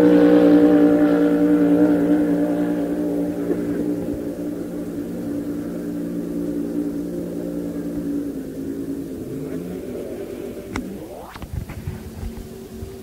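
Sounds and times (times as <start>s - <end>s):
racing boat engine at high revs: 0.0s - 13.0s
rising whine: 0.0s - 13.0s.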